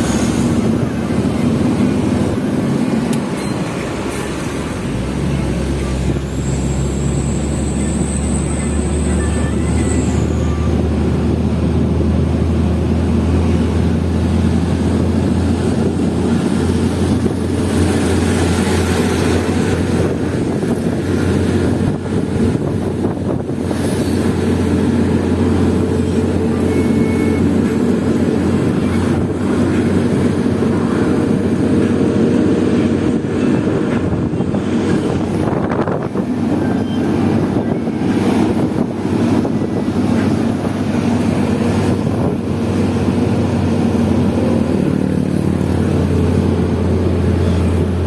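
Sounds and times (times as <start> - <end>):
diesel truck engine droning: 0.0 - 48.0
road and wind noise: 0.0 - 48.0.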